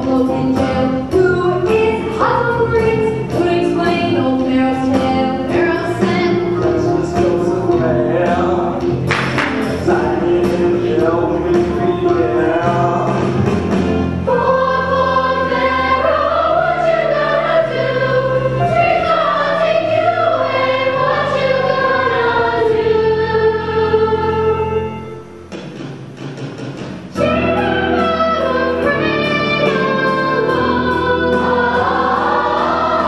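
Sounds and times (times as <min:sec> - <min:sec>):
chorus singing long notes: 0:00.0 - 0:25.5, 0:27.2 - 0:33.0
band accompaniment: 0:00.0 - 0:33.0.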